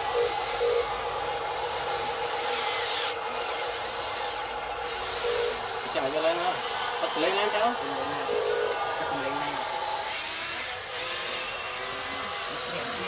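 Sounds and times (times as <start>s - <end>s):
excavator motor whine with hiss: 0.0s - 13.0s.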